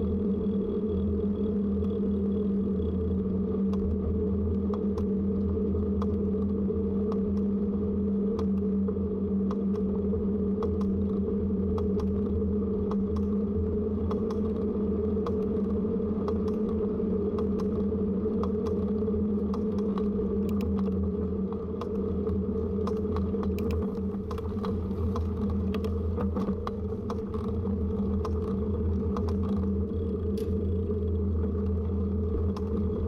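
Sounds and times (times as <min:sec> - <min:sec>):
bicycle riding hum: 0:00.0 - 0:33.0.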